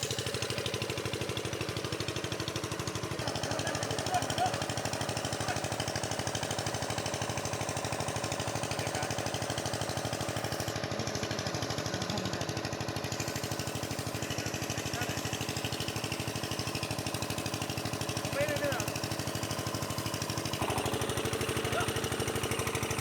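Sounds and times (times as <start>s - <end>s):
engine chugging: 0.0s - 23.0s.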